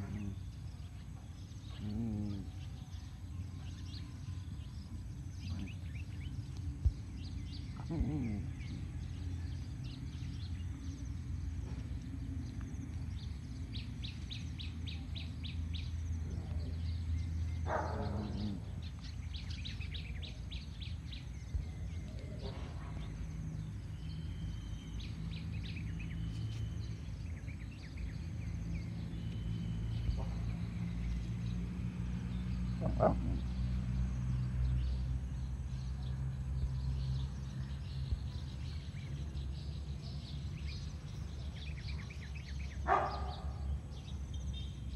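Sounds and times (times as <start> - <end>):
steady low rumble: 0.0 - 42.9
birds chirping: 0.0 - 44.9.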